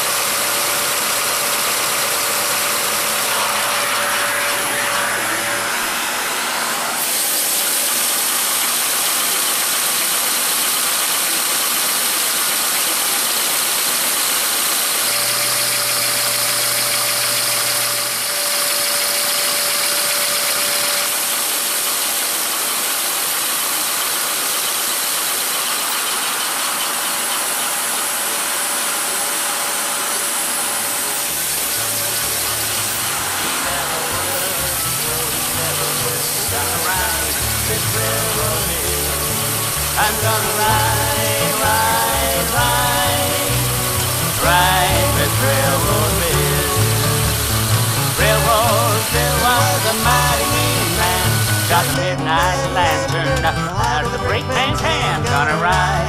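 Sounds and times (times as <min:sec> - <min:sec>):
model steam engine pistons running: 0:00.0 - 0:52.1
vacuum cleaner rushing: 0:00.0 - 0:52.5.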